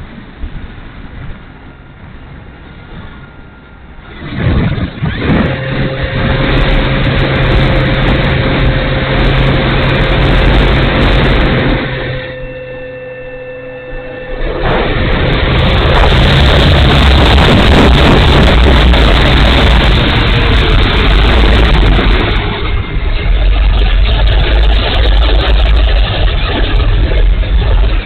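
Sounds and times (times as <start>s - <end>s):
wind rushing: 0.0s - 12.5s, 14.0s - 28.0s
motor and propeller whine: 0.0s - 28.0s.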